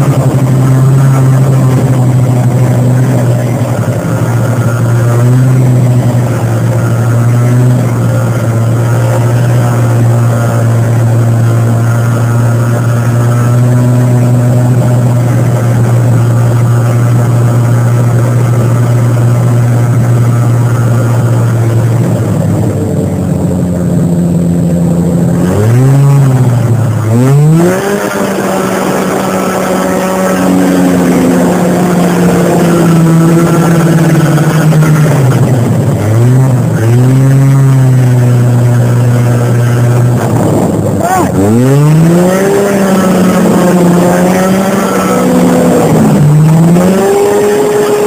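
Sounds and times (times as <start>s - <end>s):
snowmobile engine running and revving: 0.0s - 48.0s.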